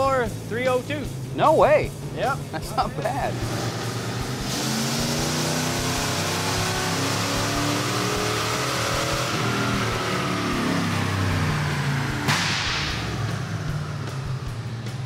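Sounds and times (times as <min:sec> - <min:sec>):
tyres driving dyno rollers: 0:02.0 - 0:15.0
engine revving at full throttle: 0:02.3 - 0:15.0.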